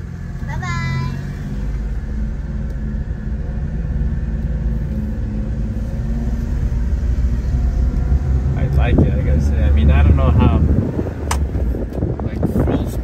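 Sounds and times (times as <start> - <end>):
small truck engine rumbling: 0.0 - 13.0.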